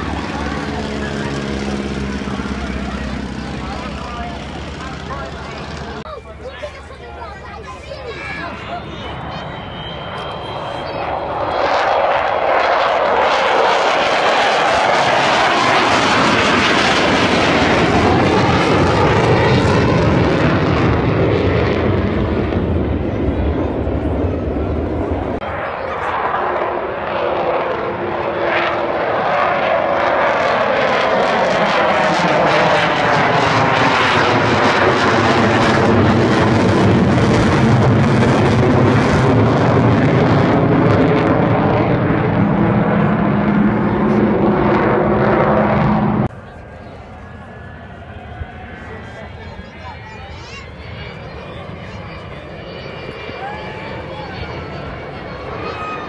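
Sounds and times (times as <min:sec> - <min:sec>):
deep jet rumble: 0:00.0 - 0:56.0
jet bomber flying low past: 0:00.0 - 0:56.0.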